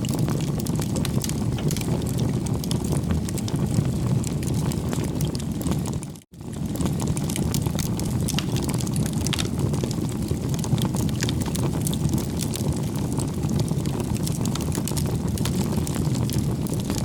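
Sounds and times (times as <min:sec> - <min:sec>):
fire crackling and popping: 0:00.0 - 0:17.0
wood fire roaring: 0:00.0 - 0:17.0.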